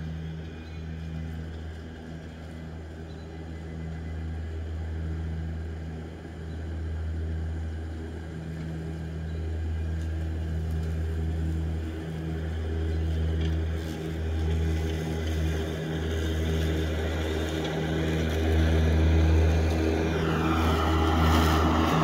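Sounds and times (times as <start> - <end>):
electric mower hum: 0.0 - 22.0.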